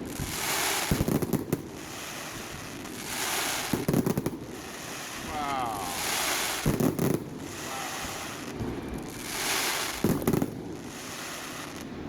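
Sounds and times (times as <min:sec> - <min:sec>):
firework bangs: 0:00.0 - 0:12.0
firework hissing crackle: 0:00.0 - 0:12.0.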